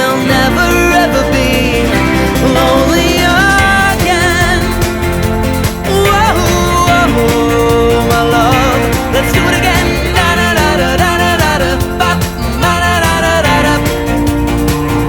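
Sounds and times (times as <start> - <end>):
indie pop song: 0.0 - 15.0.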